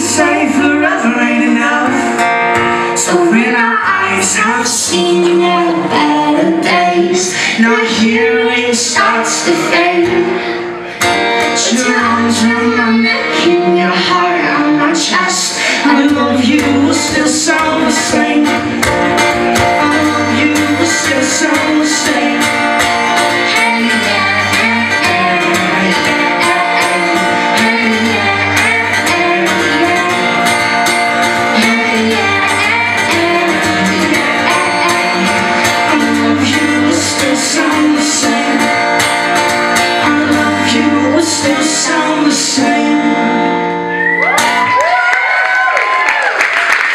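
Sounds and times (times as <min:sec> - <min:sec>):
person singing: 0:00.0 - 0:44.7
strummed acoustic guitar: 0:00.0 - 0:44.7.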